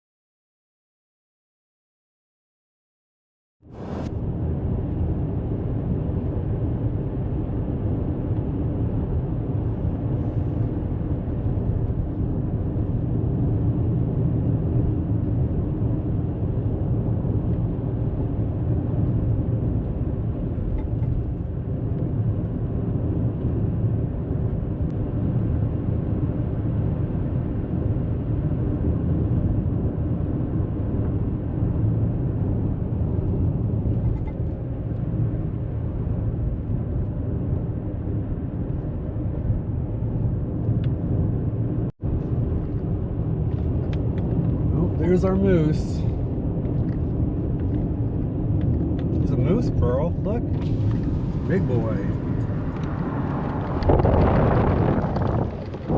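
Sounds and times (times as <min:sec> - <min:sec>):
vehicle driving rumble: 0:03.7 - 0:55.9.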